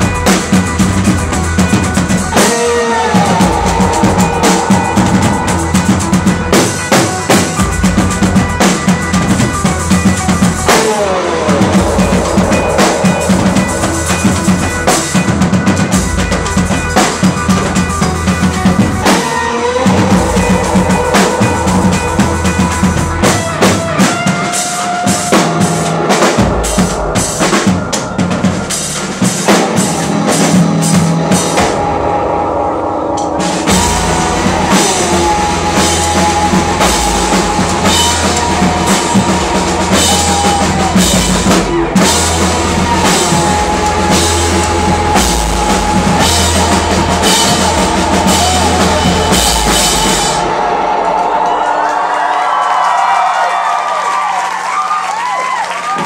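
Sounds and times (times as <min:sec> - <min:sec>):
live rock band: 0:00.0 - 0:56.0
pounding drum kit: 0:00.0 - 0:56.0.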